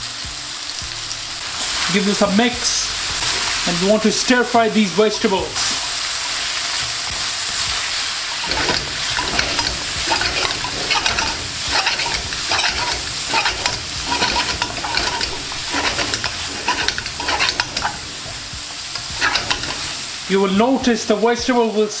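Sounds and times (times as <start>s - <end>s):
vegetables sizzling in oil: 0.0s - 22.0s
utensil scraping a wok: 1.4s - 20.5s.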